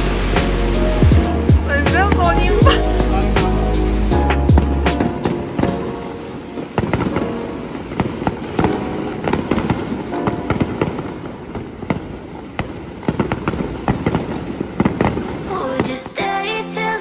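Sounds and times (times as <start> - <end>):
loud firework bangs: 0.0 - 16.0
fireworks cracking and popping: 0.0 - 16.8.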